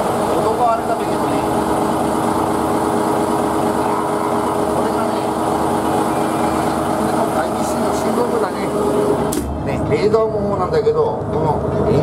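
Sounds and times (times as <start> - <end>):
marine diesel engine droning: 0.0 - 12.0.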